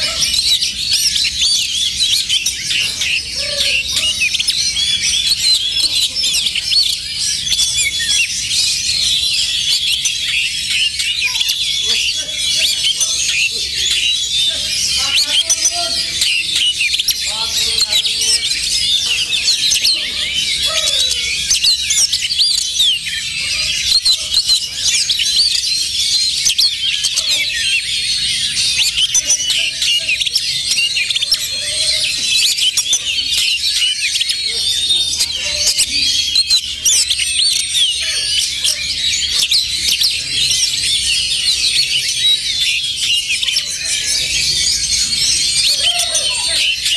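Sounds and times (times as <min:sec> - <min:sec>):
birds chirping whistling and trilling: 0:00.0 - 0:46.9.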